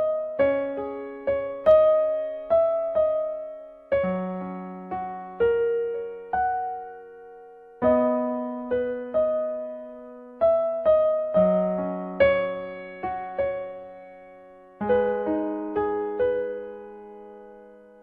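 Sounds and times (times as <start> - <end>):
slow gentle piano: 0.0 - 18.0.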